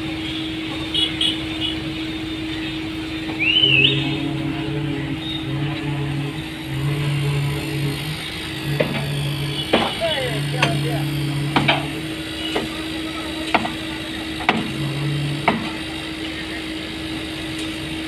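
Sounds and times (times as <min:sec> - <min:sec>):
engine hum: 0:00.0 - 0:18.0.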